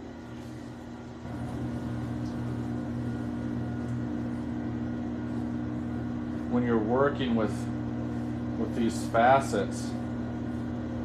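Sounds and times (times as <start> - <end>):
pottery wheel motor hum: 0.0 - 11.0.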